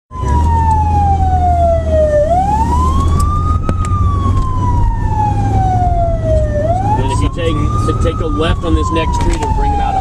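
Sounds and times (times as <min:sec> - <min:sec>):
siren wailing: 0:00.1 - 0:10.0.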